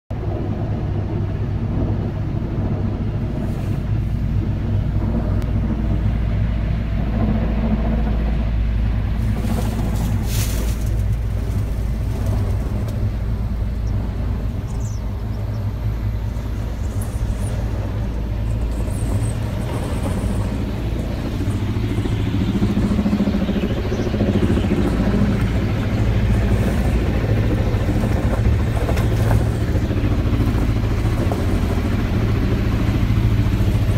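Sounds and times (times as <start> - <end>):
low engine rumble: 0.1 - 33.9.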